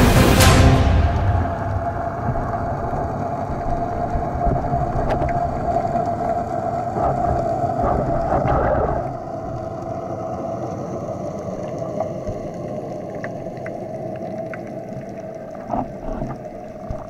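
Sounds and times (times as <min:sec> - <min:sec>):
underwater boat engine drone: 0:00.0 - 0:17.0.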